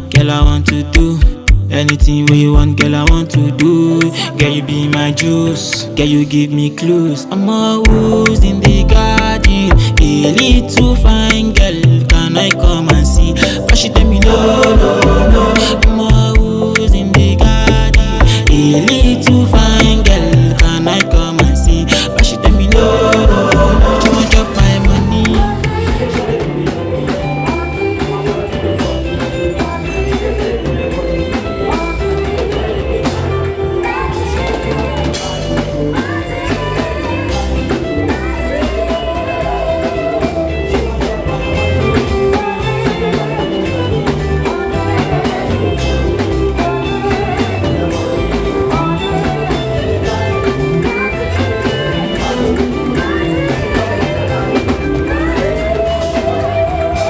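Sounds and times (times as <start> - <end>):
live band music with drums: 0.0 - 6.0, 7.8 - 57.0
person singing: 0.0 - 57.0.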